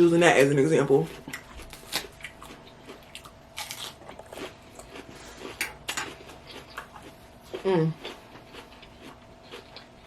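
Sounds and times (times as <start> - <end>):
person chewing salad: 1.0 - 10.0.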